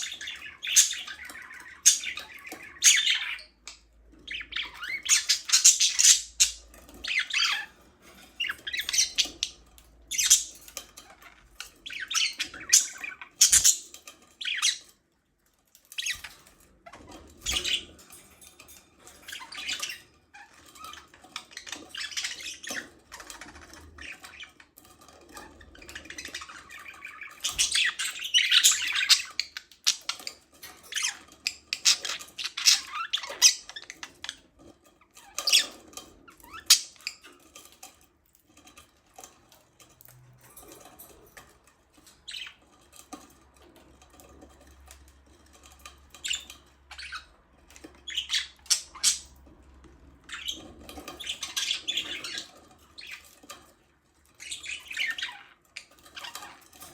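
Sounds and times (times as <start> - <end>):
budgerigars chirping and squawking: 0.0 - 15.0, 15.7 - 56.9.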